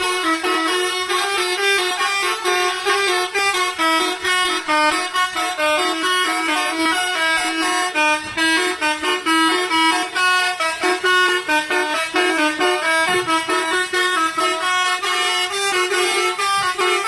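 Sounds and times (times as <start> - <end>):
musical air horn tune: 0.0 - 17.0.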